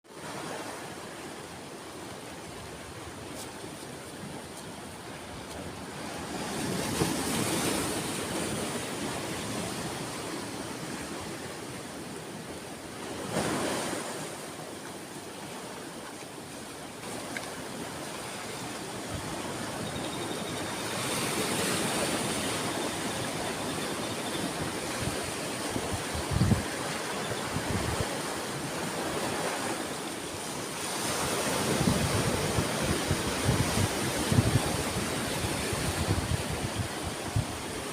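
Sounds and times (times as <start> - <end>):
ocean waves washing onto shore: 0.1 - 37.9.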